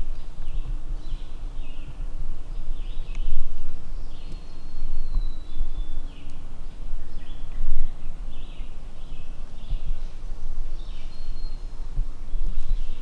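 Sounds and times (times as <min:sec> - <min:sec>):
low rumble on microphone: 0:00.0 - 0:13.0
small birds singing: 0:00.0 - 0:13.0.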